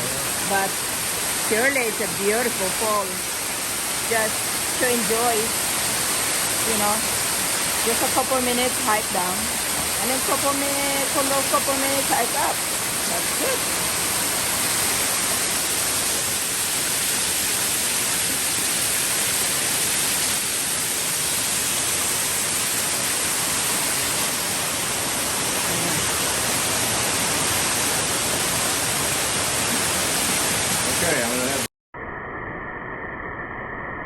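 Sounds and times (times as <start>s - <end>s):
waterfall rushing: 0.0s - 31.7s.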